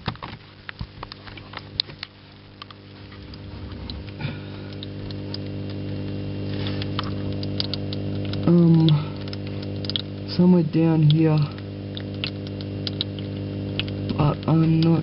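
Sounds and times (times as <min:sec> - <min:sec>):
pump running with mains hum: 0:00.0 - 0:15.0.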